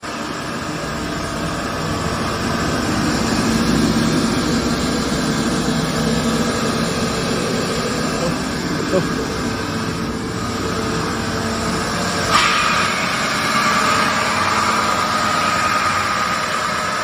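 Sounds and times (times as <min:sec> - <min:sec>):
polishing machine hum and whine: 0:00.0 - 0:17.0.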